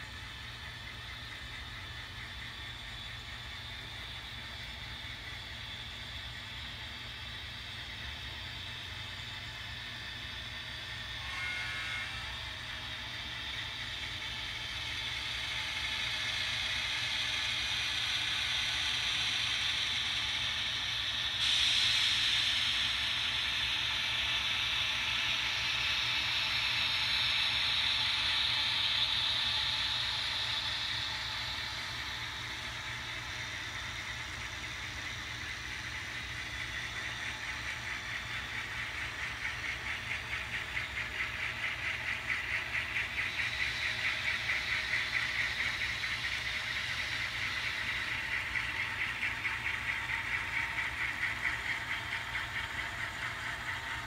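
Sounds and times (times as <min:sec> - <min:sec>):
model locomotive motors whirring: 0:00.0 - 0:54.0.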